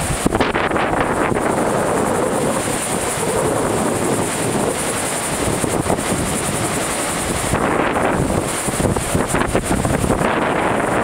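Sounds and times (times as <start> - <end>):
heavy surf breaking: 0.0 - 11.0
wind buffeting microphone: 0.0 - 11.0.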